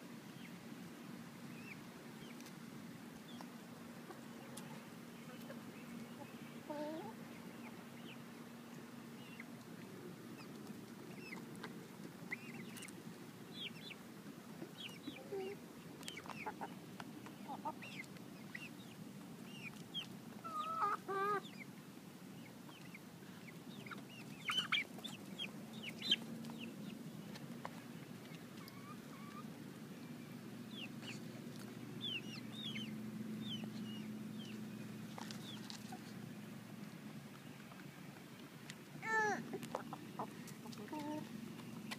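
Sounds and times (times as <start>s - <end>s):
chickens clucking and calling: 1.4s - 41.9s.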